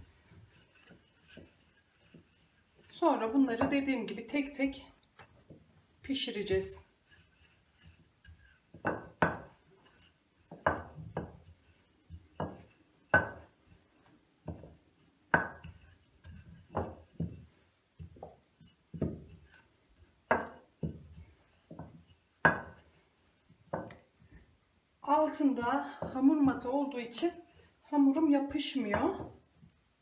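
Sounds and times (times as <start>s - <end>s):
rolling pin on dough: 0.0s - 30.0s.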